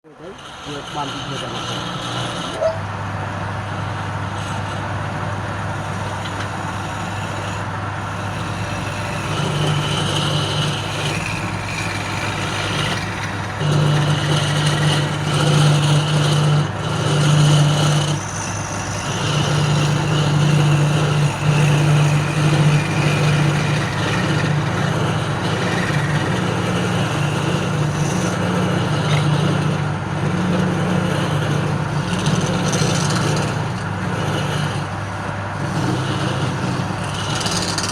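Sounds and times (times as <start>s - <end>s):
woodworking machine motor humming: 0.0s - 37.9s.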